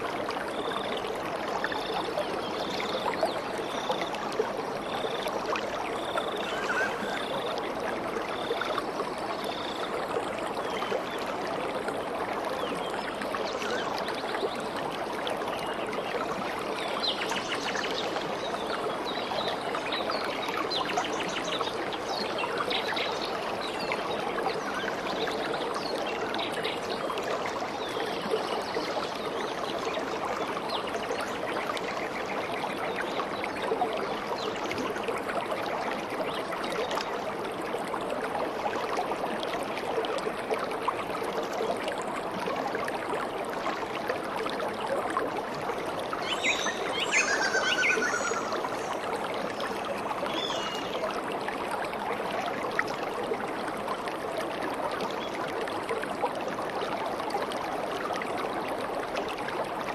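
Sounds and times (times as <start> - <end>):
stream splashing over stones: 0.0 - 59.9.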